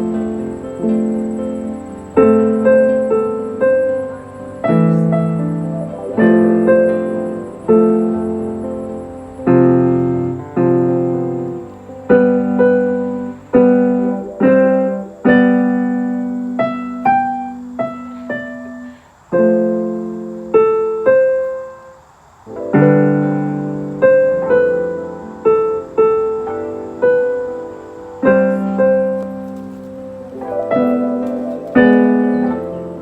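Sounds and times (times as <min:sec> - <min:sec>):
electric piano chords and melody: 0:00.0 - 0:33.0.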